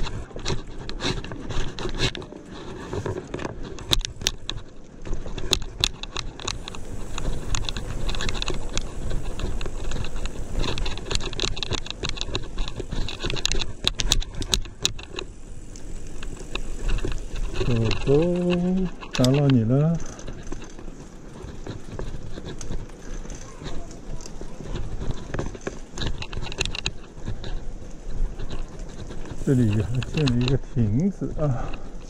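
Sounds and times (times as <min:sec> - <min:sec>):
bicycle tyres on rough concrete: 0:00.0 - 0:32.0
bike clicks and rattles: 0:00.0 - 0:32.0.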